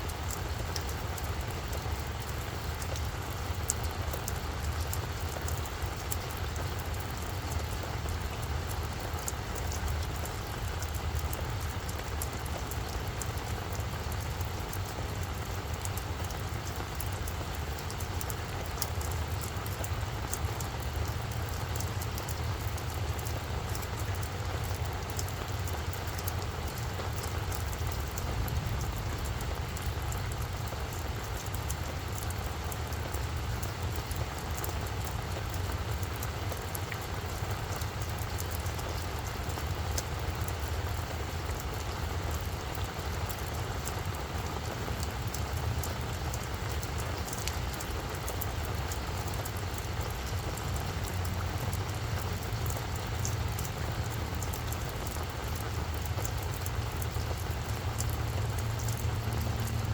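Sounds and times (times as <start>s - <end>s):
rain falling on plants: 0.0s - 59.9s.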